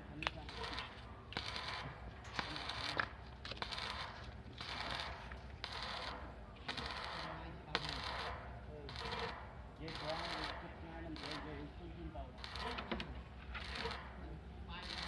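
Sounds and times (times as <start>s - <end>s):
crackling scraping on metal: 0.0s - 15.0s.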